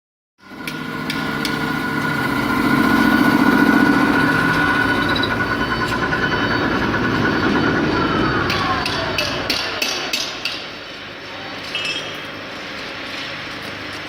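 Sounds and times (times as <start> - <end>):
low machine hum: 0.4 - 14.0
machine tool whining: 0.4 - 14.0.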